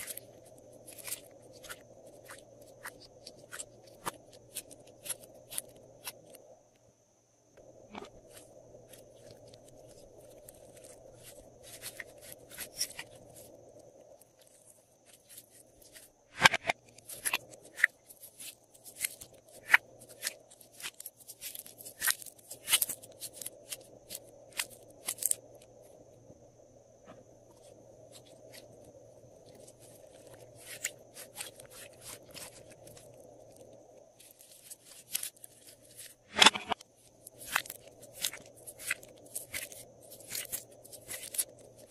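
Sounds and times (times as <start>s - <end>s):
faint hum: 0.0s - 41.9s.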